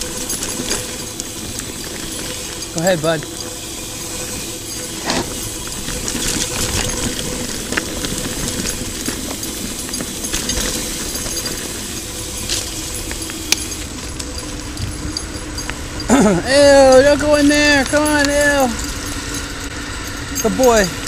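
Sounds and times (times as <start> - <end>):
bike clicks and rattles: 0.0 - 21.0
bike tyre and wind noise: 0.0 - 21.0.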